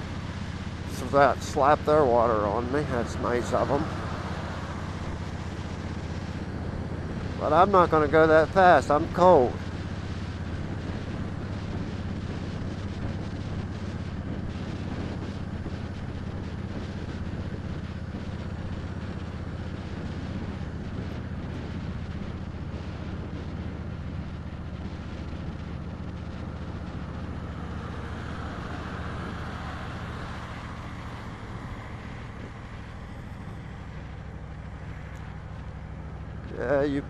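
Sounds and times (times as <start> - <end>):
motorcycle engine running: 0.0 - 37.0
wind rushing over microphone: 0.0 - 37.0.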